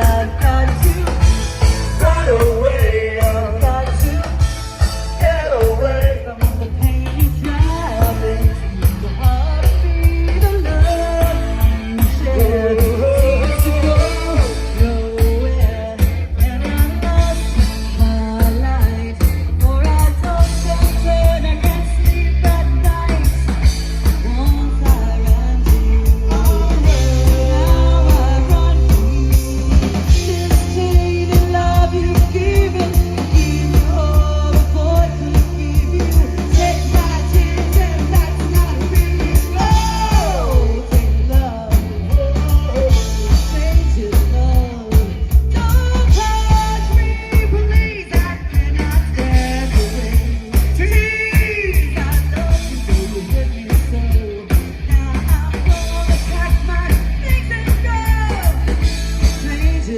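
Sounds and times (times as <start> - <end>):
heavy bass line: 0.0 - 59.9
lead singer: 0.0 - 59.9
steady drum beat: 0.0 - 59.9
upbeat rock song: 0.0 - 59.9.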